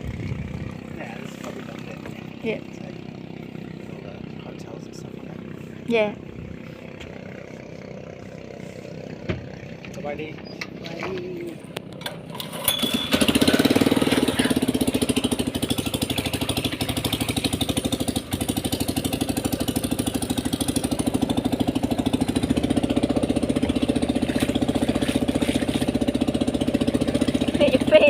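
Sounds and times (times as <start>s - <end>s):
boat engine pulsing: 0.0s - 28.0s.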